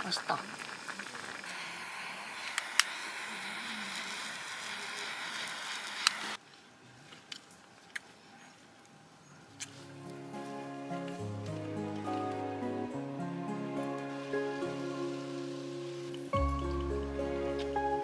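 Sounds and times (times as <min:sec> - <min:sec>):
stew simmering on stove: 0:00.0 - 0:07.1, 0:09.7 - 0:18.0.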